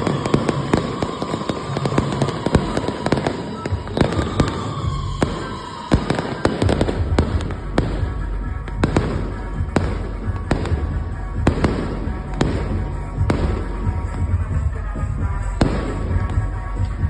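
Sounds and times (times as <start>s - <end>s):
fireworks bursting bangs: 0.0s - 17.0s
fireworks crackling: 0.0s - 17.0s.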